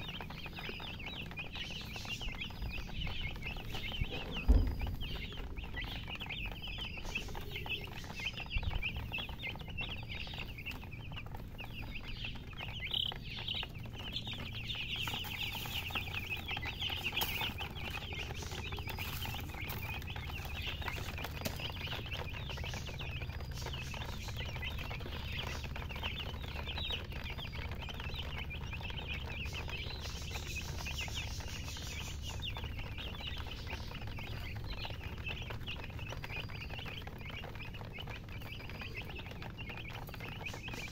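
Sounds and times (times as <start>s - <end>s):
baby chicks chirping: 0.0s - 40.9s.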